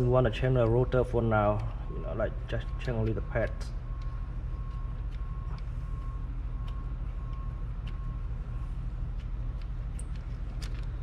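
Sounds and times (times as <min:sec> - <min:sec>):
light clicks of brake parts: 0:00.0 - 0:11.0
low machine hum: 0:00.0 - 0:11.0.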